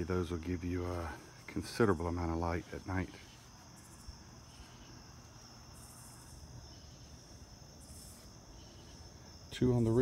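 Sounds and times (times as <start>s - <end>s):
high cricket trill: 0.0s - 10.0s
insects buzzing: 0.0s - 10.0s.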